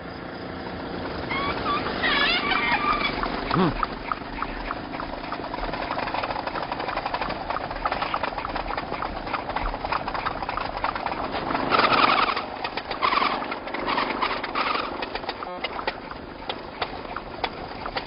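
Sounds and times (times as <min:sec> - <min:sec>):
motorbike engine clattering: 0:00.1 - 0:18.0.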